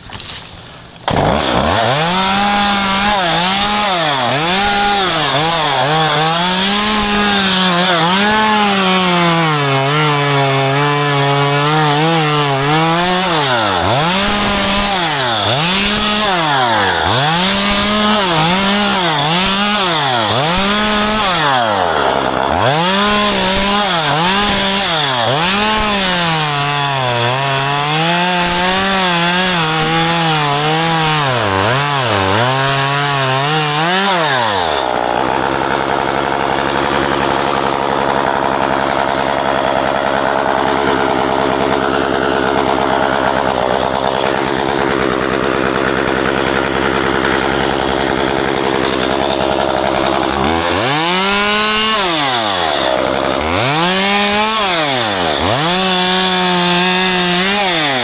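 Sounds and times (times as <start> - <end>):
chainsaw cutting branches: 0.0 - 58.0.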